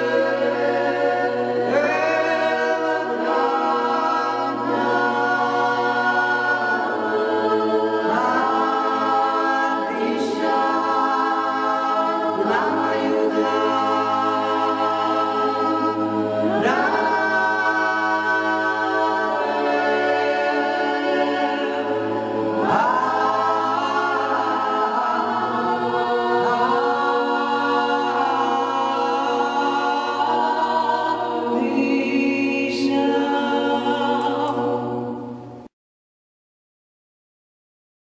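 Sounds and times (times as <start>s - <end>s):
choir singing a cappella: 0.0s - 35.7s
low held vocal drone: 0.0s - 35.7s.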